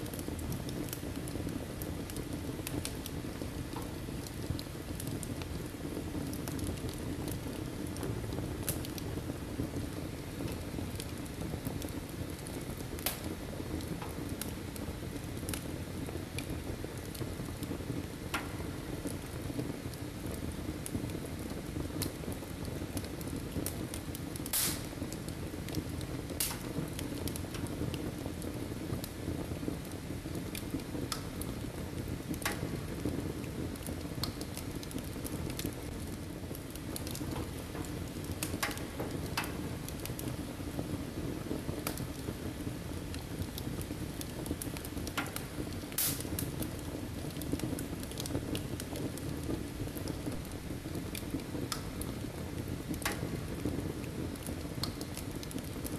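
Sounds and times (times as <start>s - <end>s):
fire crackles and pops: 0.0s - 55.9s
low rushing of flames: 0.0s - 55.9s.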